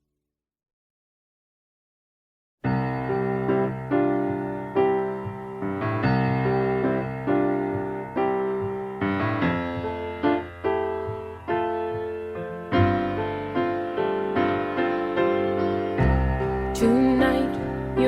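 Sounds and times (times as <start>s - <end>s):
slow piano chords: 2.6s - 18.0s.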